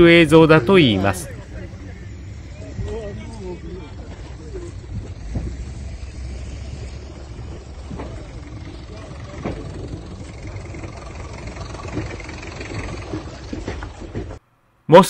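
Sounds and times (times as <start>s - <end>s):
faint distant voices: 0.0s - 13.6s
traffic: 0.0s - 14.5s.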